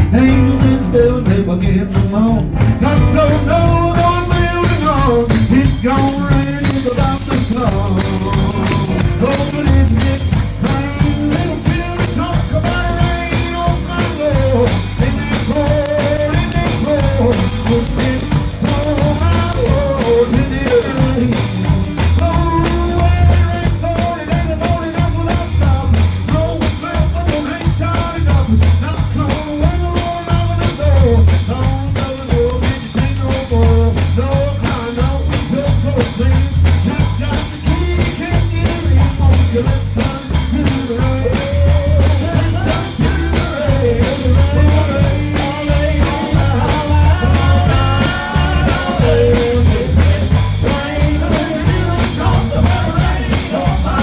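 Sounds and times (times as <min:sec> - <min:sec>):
band with bass line: 0:00.0 - 0:54.0
busy percussion: 0:00.0 - 0:54.0
voices singing gospel: 0:00.0 - 0:54.0.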